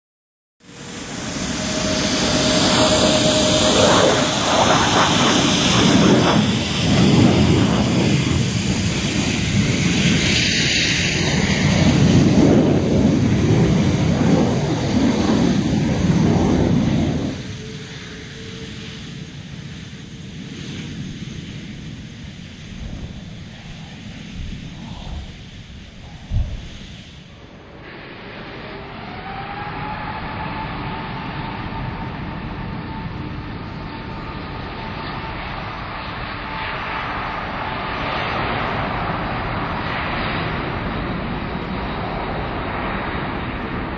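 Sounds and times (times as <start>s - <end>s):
jet engines rumbling: 0.6s - 43.9s.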